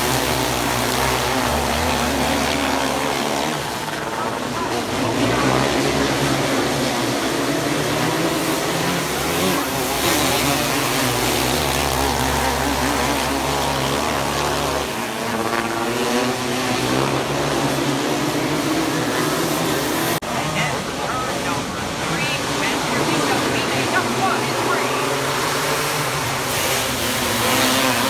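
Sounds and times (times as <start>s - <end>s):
racing kart engines: 0.0s - 28.0s.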